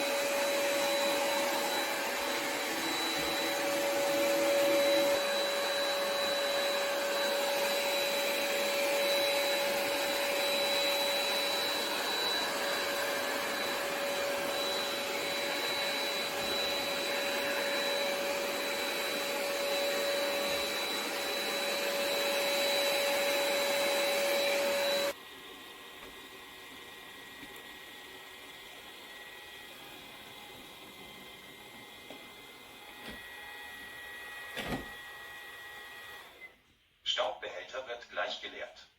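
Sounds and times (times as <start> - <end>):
robot vacuum whirring and whining: 0.0 - 36.5.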